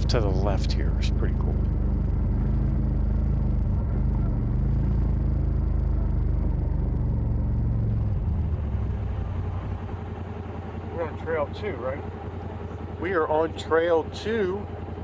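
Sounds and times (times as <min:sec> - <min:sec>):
utility vehicle engine rumbling: 0:00.0 - 0:15.0.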